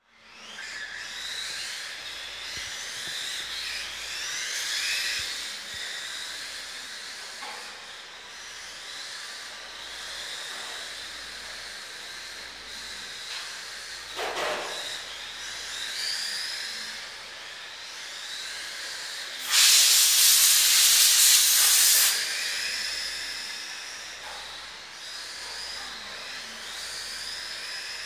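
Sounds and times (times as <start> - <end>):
rc car motors whining: 0.1 - 28.0.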